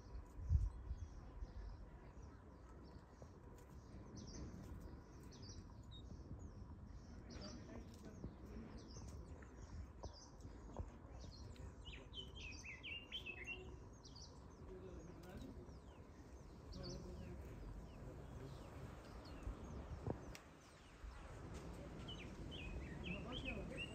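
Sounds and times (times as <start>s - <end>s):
birds chirping faintly: 0.0s - 23.9s.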